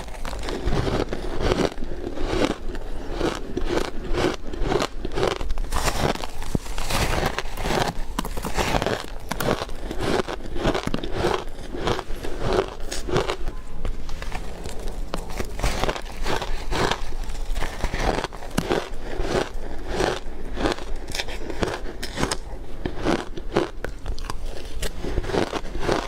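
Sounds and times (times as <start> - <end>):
ice crunching being chewed: 0.0 - 26.0.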